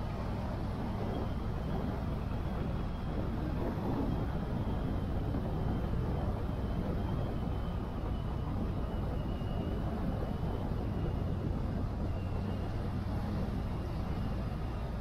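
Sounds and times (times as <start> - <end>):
faint high whine: 0.0 - 15.0
wind and road noise: 0.0 - 15.0.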